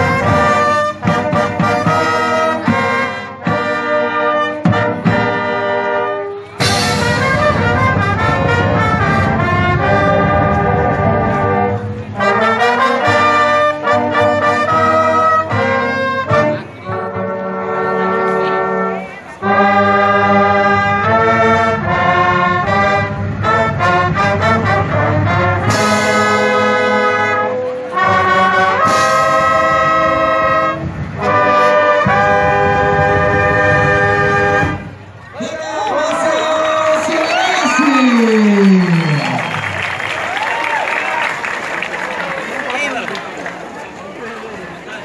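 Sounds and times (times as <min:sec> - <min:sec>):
marching band brass playing: 0:00.0 - 0:45.0.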